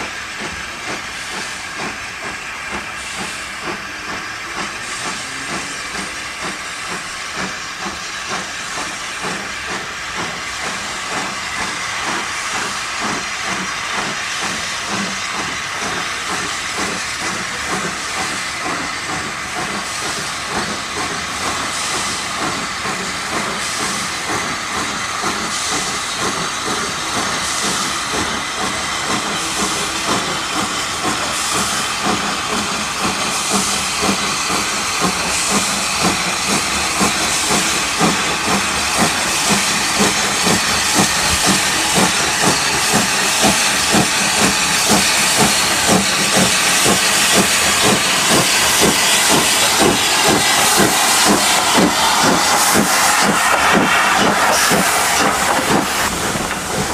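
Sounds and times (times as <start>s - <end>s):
steam locomotive hissing steam: 0.0s - 56.9s.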